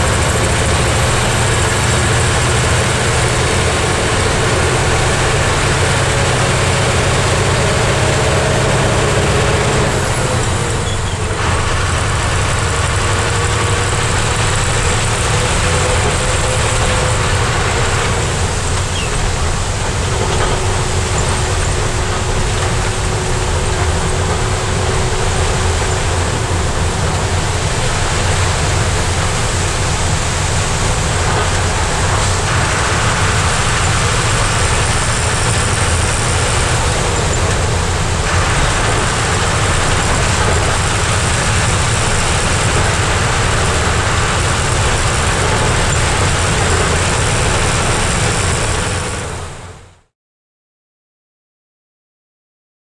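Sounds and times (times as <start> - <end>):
diesel truck engine running: 0.0 - 50.1
road and tyre noise: 0.0 - 50.1.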